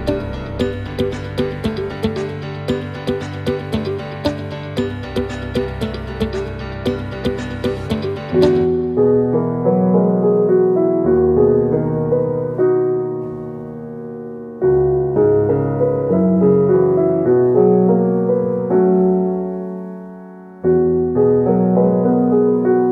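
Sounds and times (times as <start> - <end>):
slow piano music: 0.0 - 22.9.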